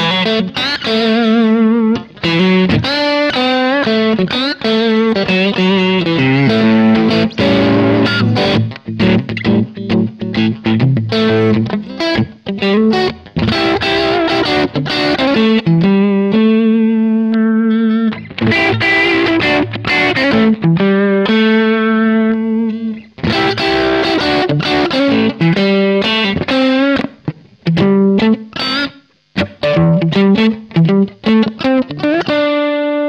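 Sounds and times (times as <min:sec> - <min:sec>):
overdriven electric guitar lead: 0:00.0 - 0:33.0.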